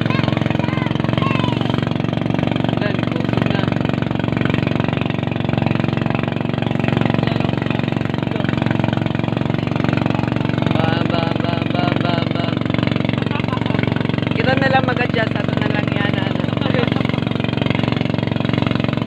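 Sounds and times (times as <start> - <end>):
small engine running steadily: 0.0 - 19.0.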